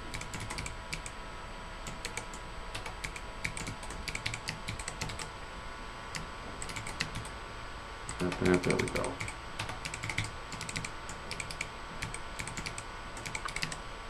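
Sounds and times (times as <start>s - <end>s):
faint steady hum: 0.0s - 14.0s
computer keyboard keystrokes: 0.1s - 1.1s, 1.8s - 5.3s, 6.2s - 7.3s, 8.1s - 13.8s.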